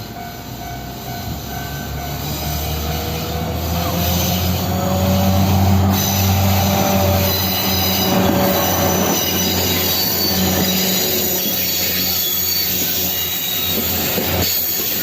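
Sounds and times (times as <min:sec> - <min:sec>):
wheels squealing on rails: 0:00.0 - 0:15.0.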